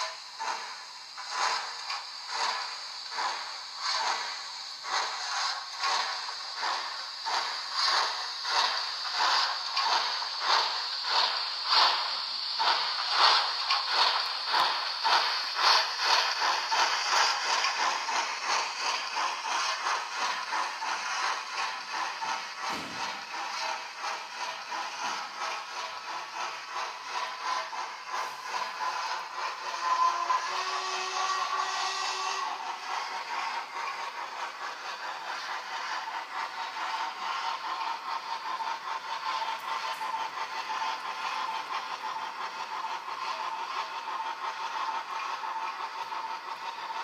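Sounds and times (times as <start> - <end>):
continuous steam hiss: 0.0 - 47.0
steam locomotive chuffs: 0.0 - 47.0.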